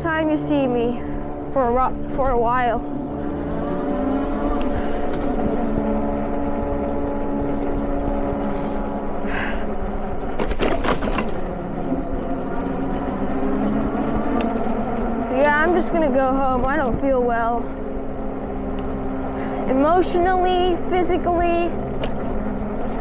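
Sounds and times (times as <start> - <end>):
electric bike hum: 0.0 - 23.0
wind rumble on microphone: 0.0 - 23.0.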